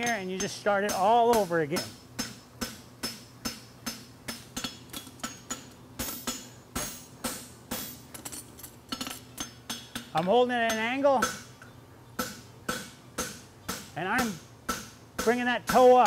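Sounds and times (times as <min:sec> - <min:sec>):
hammer striking horseshoe on anvil: 0:00.0 - 0:08.3, 0:08.9 - 0:11.5, 0:12.2 - 0:16.0.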